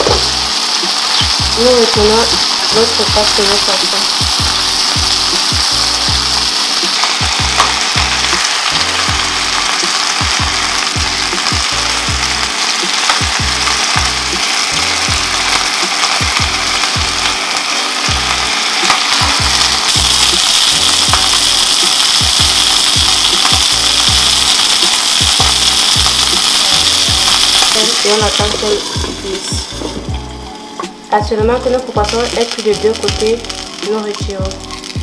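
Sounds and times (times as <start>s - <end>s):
background music with steady beat: 0.0s - 35.0s
fish sizzling in hot oil: 0.0s - 35.0s.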